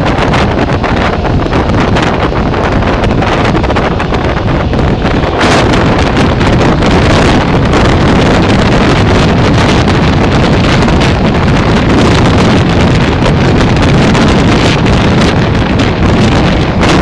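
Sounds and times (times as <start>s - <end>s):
train running on rails: 0.0s - 17.0s
wind buffeting microphone: 0.0s - 17.0s.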